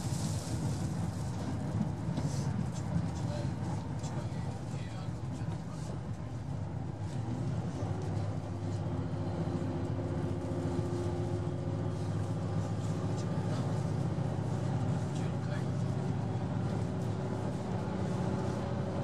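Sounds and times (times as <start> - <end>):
diesel railcar drone: 0.0 - 19.0.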